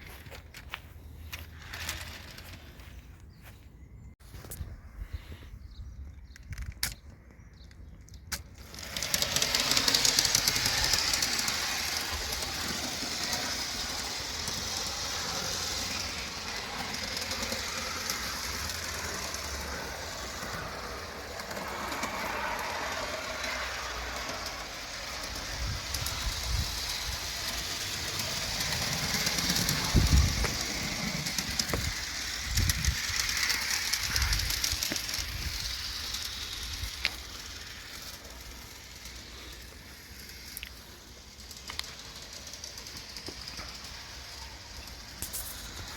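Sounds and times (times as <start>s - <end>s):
small electric motors whirring: 1.3s - 3.1s, 8.3s - 45.9s.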